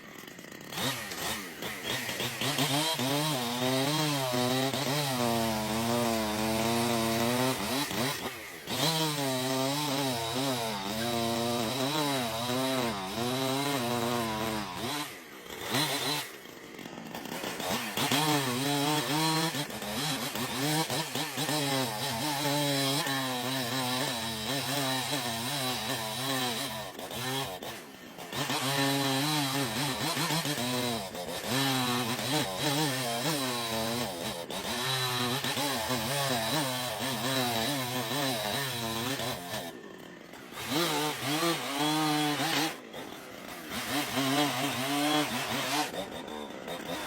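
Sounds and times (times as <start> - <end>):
chainsaw cutting wood: 0.0 - 47.0.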